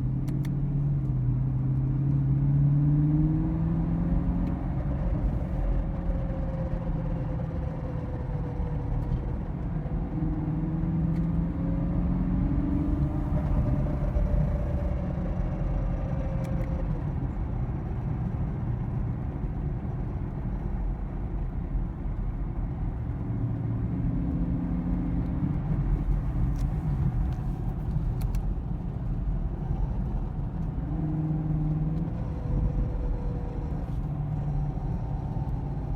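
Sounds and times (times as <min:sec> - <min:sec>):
car engine rumbling with whine: 0:00.0 - 0:35.9.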